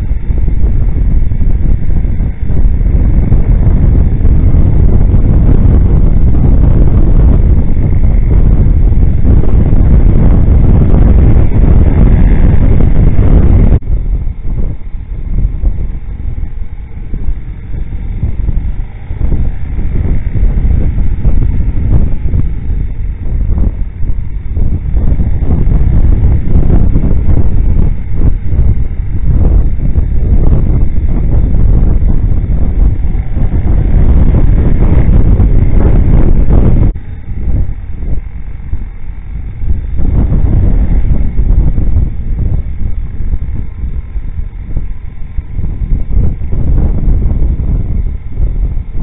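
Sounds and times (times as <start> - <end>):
motorcycle riding noise: 0.0 - 49.0
wind buffeting microphone: 0.0 - 49.0.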